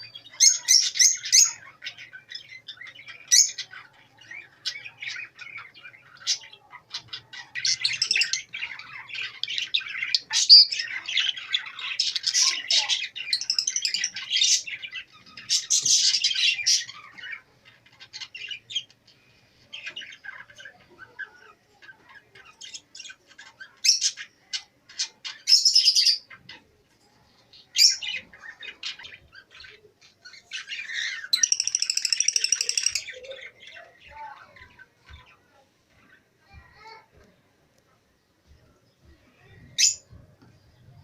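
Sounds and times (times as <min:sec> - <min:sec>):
cage birds chirping: 0:00.0 - 0:41.0.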